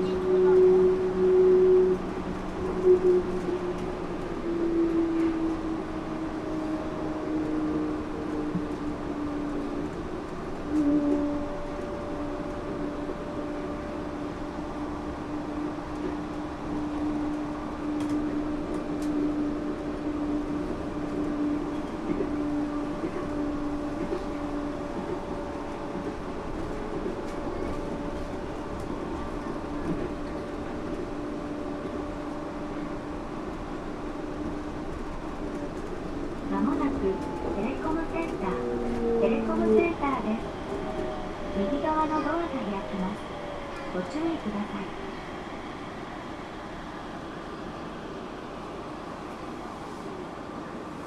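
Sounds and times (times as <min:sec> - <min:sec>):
train motor hum: 0:00.0 - 0:50.1
train running noise: 0:00.0 - 0:51.0.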